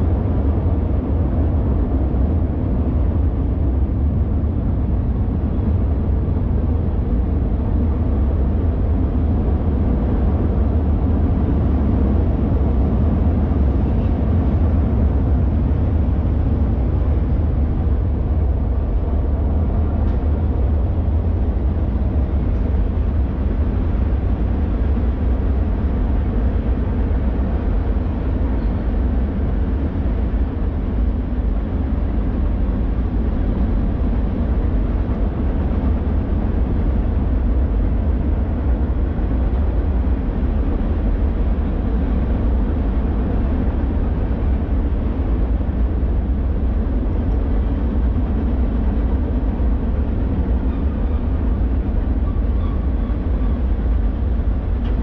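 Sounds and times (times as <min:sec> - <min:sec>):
train rumbling over steel bridge: 0:00.0 - 0:55.0.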